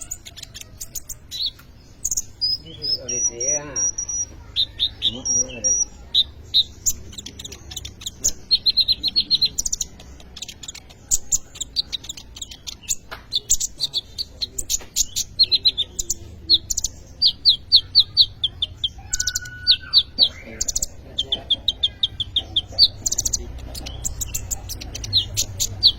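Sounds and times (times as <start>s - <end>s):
bird chirping rapidly: 0.0s - 25.9s.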